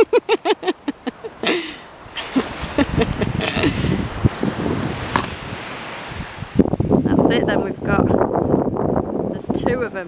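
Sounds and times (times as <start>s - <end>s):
wind buffeting microphone: 1.2s - 10.0s.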